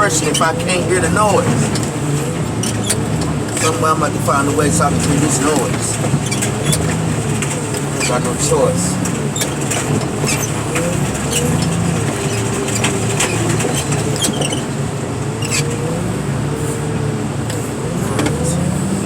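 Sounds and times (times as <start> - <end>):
diesel engine and hydraulics droning: 0.0 - 19.0.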